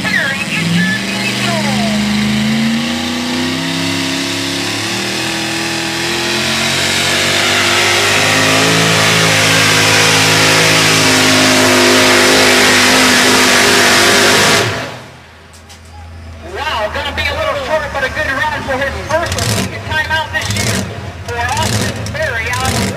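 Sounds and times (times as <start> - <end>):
truck engine at high revs: 0.0 - 15.5, 16.1 - 22.9.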